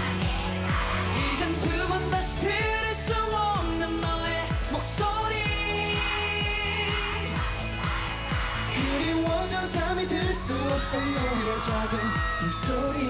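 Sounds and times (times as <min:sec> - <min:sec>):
synth-pop backing track: 0:00.0 - 0:13.0
man singing: 0:01.0 - 0:07.7, 0:08.6 - 0:13.0.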